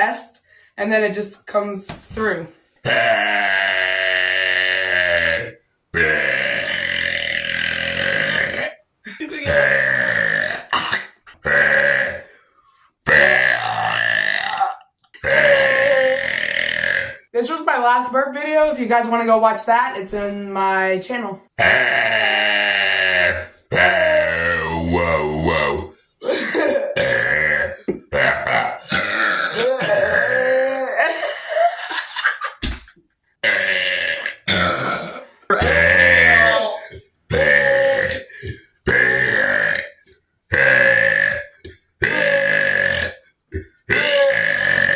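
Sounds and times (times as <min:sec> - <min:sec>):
loud burps: 0:02.8 - 0:12.4, 0:13.0 - 0:17.3, 0:21.6 - 0:32.5, 0:33.4 - 0:44.9.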